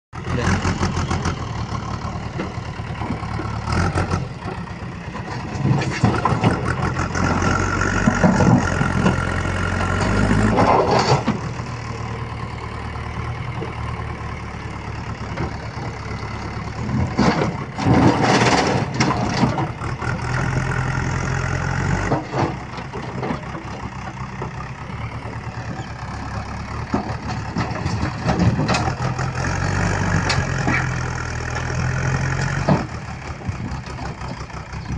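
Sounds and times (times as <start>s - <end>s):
heavy machine diesel engine: 0.1s - 34.9s.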